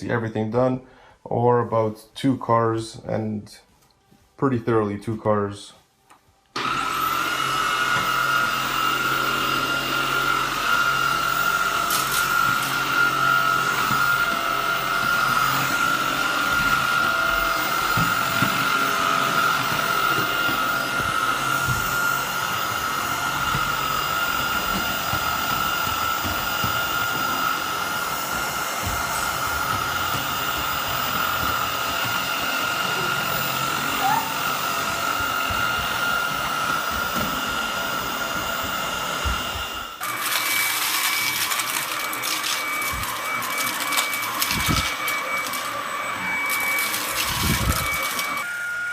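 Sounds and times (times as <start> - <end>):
stick vacuum motor whine: 6.5 - 48.9.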